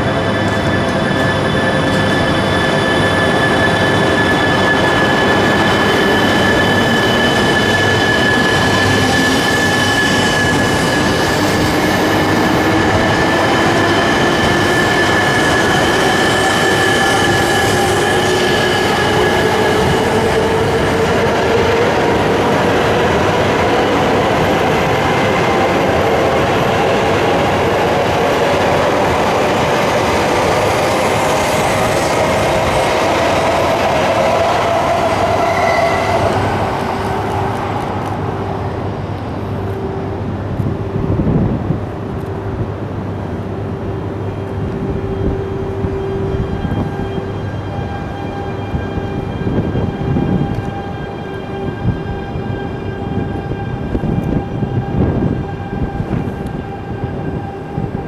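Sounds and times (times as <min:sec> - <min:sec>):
train rolling and whining: 0:00.0 - 0:58.0.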